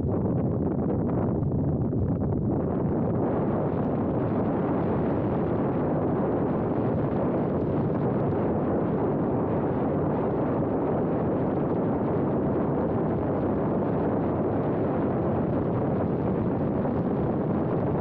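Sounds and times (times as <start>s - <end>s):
airflow rushing over microphone: 0.0s - 18.0s.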